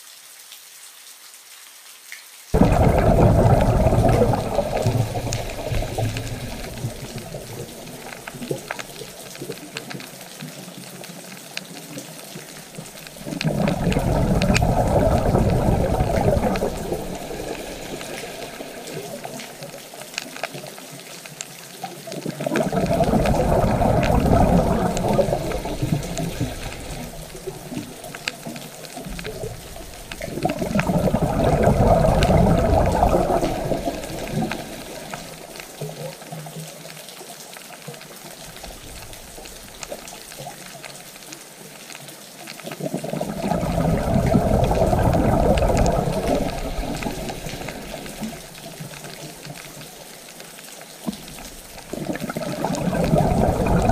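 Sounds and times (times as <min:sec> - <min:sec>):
water rushing: 0:02.5 - 0:53.9.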